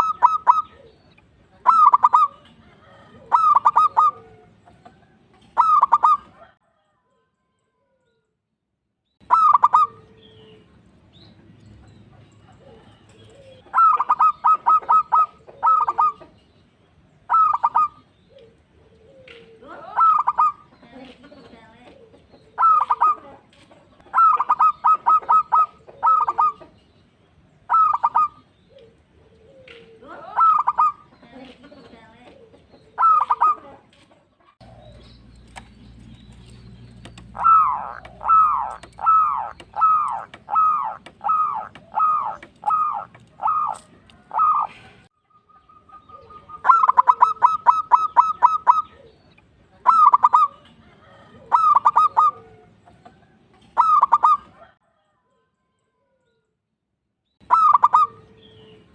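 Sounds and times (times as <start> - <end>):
doves cooing: 0.0 - 6.9, 9.2 - 10.8, 11.8 - 55.1, 57.4 - 58.9.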